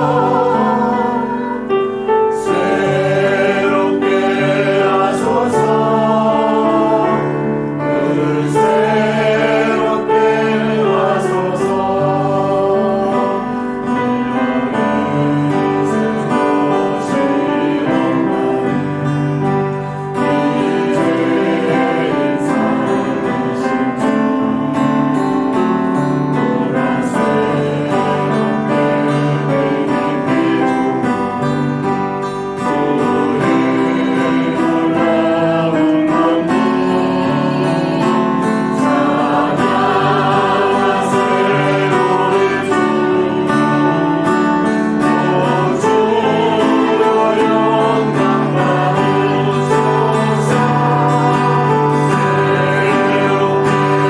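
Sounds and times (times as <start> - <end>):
acoustic guitar: 0.0 - 54.0
people singing worship song: 0.0 - 54.0.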